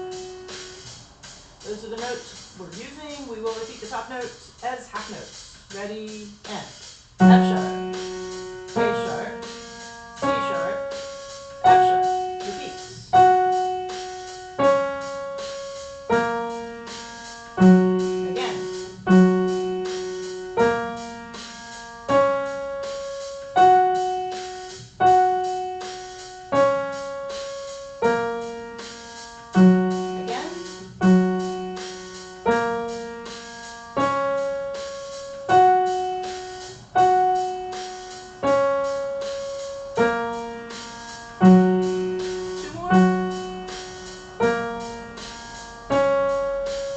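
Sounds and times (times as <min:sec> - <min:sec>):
slow piano notes and chords: 0:00.0 - 0:01.8, 0:07.2 - 0:46.9.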